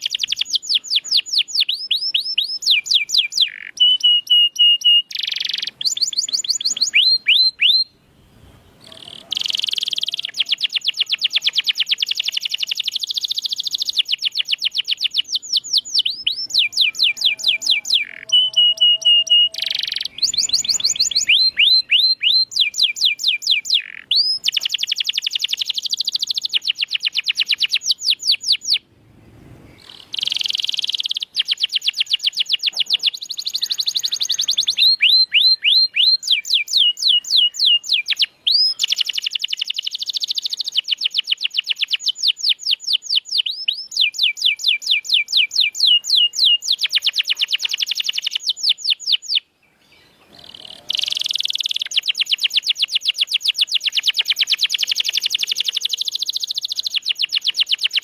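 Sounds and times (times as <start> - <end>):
canary singing trills: 0.0 - 28.9, 29.7 - 58.0.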